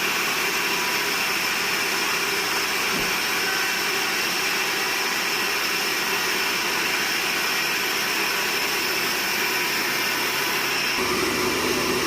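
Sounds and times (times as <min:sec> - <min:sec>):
sawmill machinery whine: 0:00.0 - 0:12.0.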